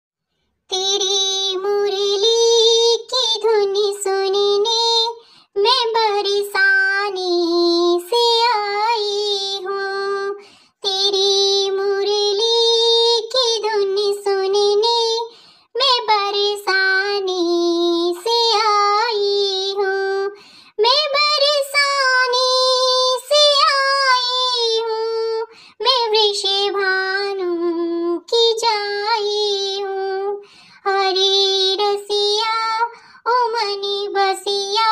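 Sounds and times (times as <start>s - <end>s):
high-pitched voice singing: 0.7s - 34.9s.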